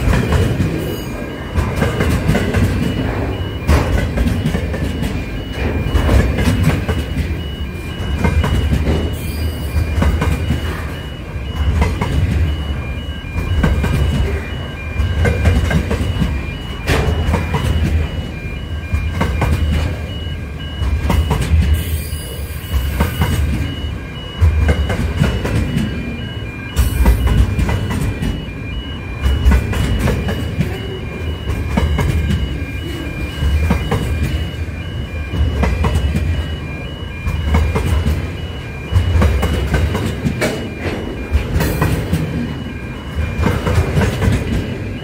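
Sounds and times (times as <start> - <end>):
freight train rumble: 0.0 - 45.0.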